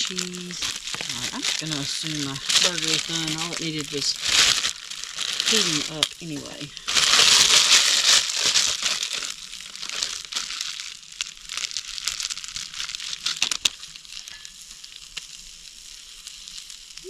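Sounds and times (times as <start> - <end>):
food packaging crinkling: 0.0 - 17.0.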